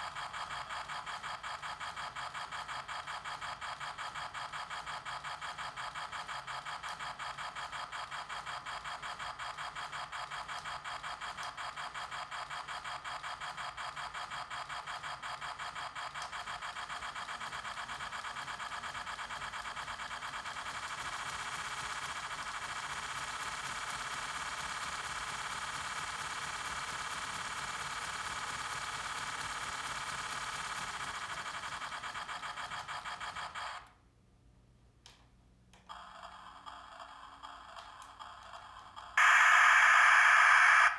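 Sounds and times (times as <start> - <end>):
model steam locomotive chuffing: 0.0 - 33.9.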